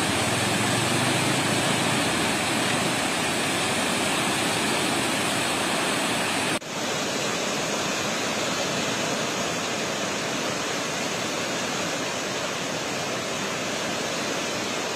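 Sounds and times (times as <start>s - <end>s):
river rushing: 0.0s - 14.9s.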